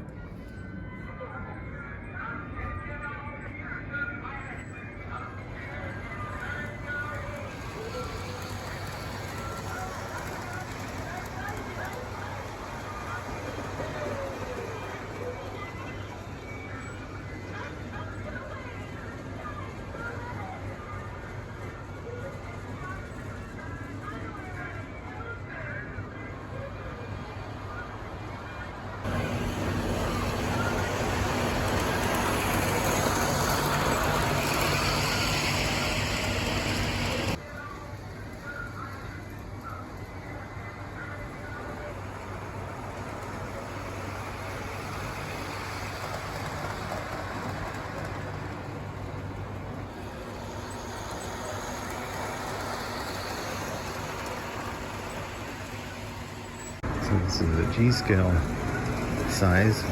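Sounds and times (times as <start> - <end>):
model train wheels rumbling: 5.5 - 24.8, 26.5 - 59.9.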